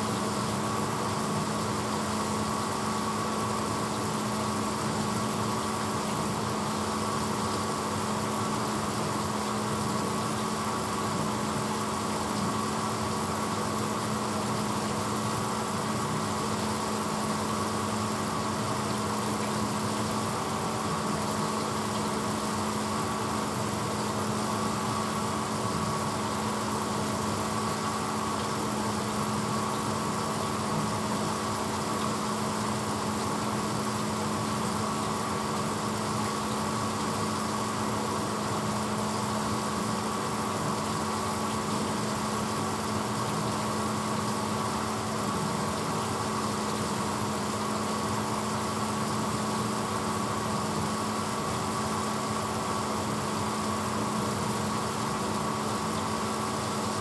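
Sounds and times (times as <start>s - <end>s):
dishwasher motor hum: 0.0s - 57.0s.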